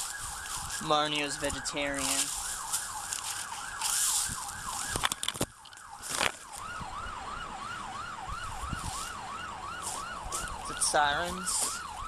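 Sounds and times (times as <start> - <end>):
emergency siren yelping: 0.0 - 12.0.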